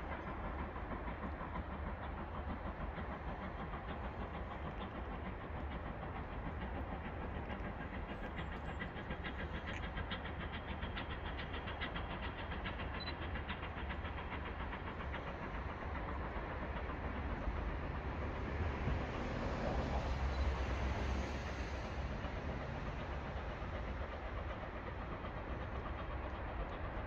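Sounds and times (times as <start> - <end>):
steam locomotive exhaust beat: 0.0 - 27.0.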